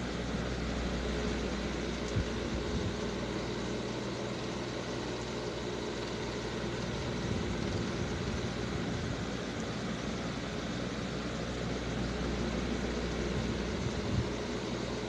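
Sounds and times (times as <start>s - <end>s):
machine whir with low hum: 0.0s - 15.0s.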